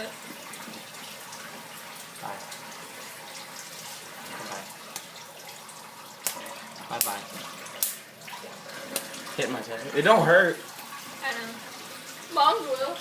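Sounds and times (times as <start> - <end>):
running water hissing: 0.0 - 13.0.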